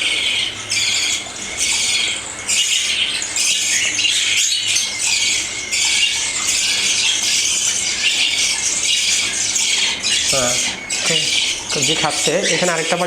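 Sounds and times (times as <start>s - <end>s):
cockatiels rasping begging calls: 0.0s - 13.0s.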